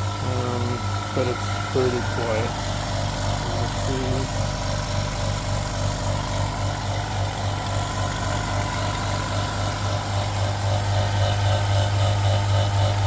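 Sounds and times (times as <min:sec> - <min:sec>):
air compressor humming: 0:00.0 - 0:13.0.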